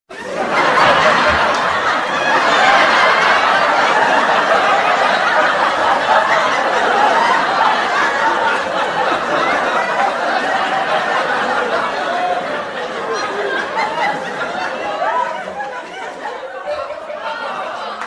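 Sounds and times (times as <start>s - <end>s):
group of people laughing: 0.1s - 18.0s.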